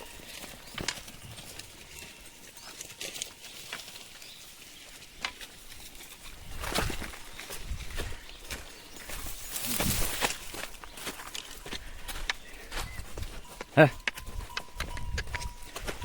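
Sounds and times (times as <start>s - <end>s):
leaves rustling: 0.0s - 13.4s
footsteps on dry leaves and twigs: 0.0s - 16.0s.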